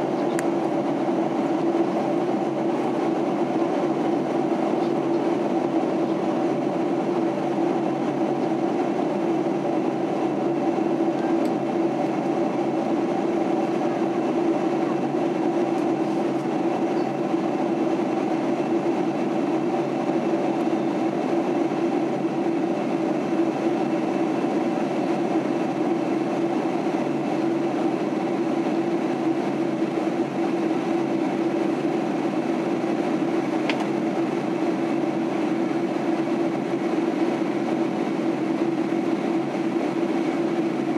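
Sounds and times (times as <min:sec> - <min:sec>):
rush of engines and airflow: 0:00.0 - 0:40.9.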